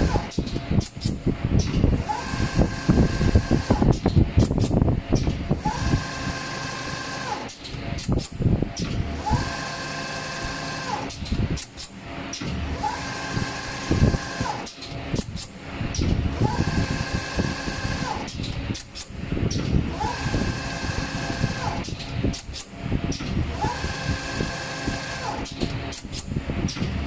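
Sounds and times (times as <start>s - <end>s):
machine motor whine: 0.0s - 0.6s, 2.0s - 8.2s, 8.8s - 18.8s, 19.4s - 27.0s
machine clicks and knocks: 0.0s - 6.1s, 6.8s - 9.8s, 10.4s - 27.0s.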